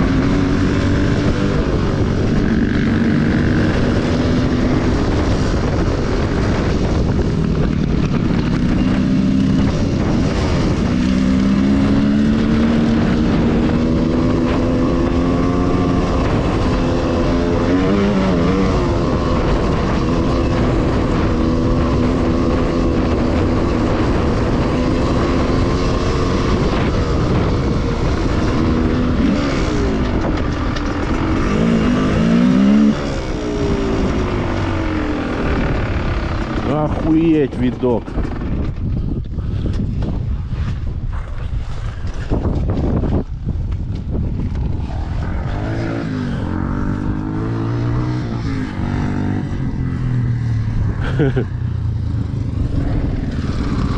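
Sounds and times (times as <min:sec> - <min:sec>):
motorcycle engine revving: 0:00.0 - 0:53.9
steady rumbling noise: 0:00.0 - 0:53.9.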